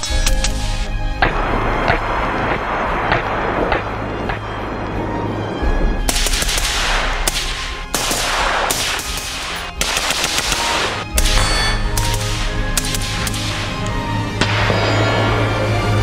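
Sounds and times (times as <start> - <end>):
gunshots ringing: 0.0 - 4.5, 6.1 - 15.7
dramatic music: 0.0 - 16.0.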